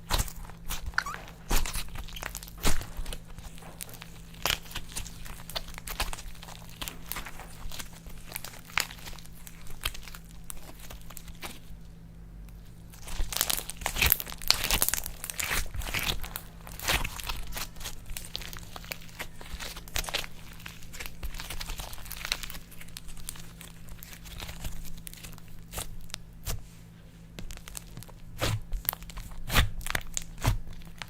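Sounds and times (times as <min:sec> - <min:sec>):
slime squished by hand: 0:00.0 - 0:11.7, 0:12.9 - 0:26.8, 0:27.4 - 0:31.0.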